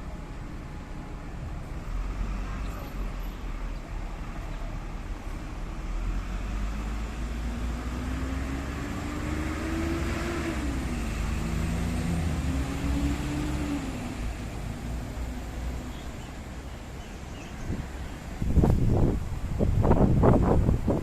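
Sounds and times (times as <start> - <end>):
low traffic rumble: 0.0 - 21.0
passing vehicle engine: 1.7 - 21.0.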